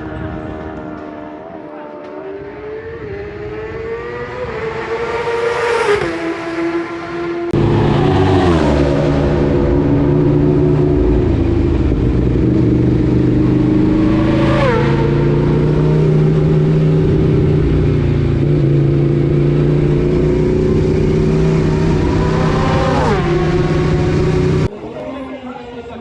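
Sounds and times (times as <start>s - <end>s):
motorcycle engine accelerating: 0.0s - 24.8s.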